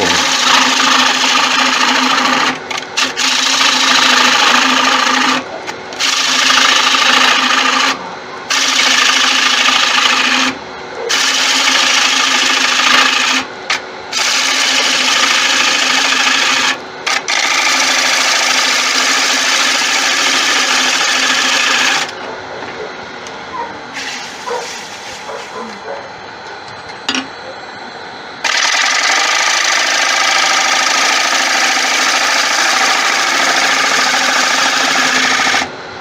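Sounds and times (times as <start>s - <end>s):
turning tool cutting wood: 0.0s - 22.2s, 24.0s - 25.6s, 28.4s - 35.8s
lathe humming: 0.0s - 36.0s.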